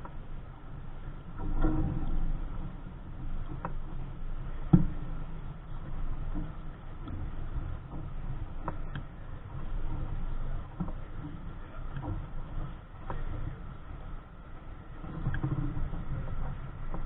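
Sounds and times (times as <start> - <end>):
water washing against hull: 0.0 - 17.0
wind rumbling on microphone: 0.0 - 17.0.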